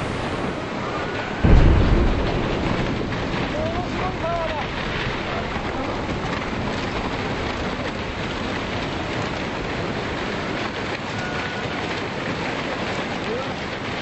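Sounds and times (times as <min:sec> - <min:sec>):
floodwater rushing through street: 0:00.0 - 0:14.0.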